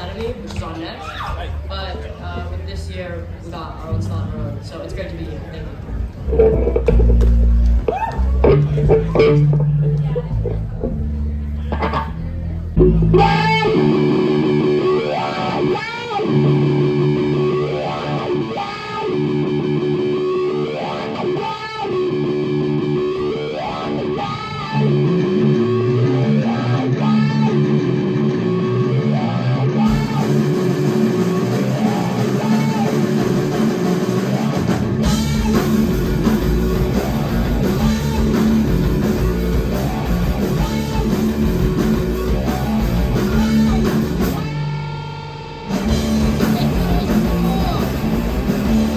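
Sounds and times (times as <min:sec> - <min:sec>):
bass guitar: 0:00.0 - 0:48.9
rock band playing: 0:03.9 - 0:48.9
electric guitar riff: 0:06.2 - 0:48.9.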